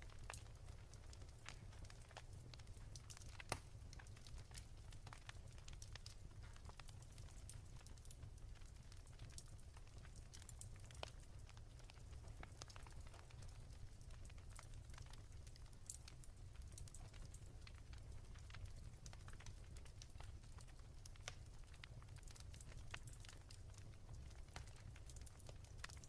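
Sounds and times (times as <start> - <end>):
low fire rumble: 0.0 - 26.0
fire pops and snaps: 0.1 - 26.0.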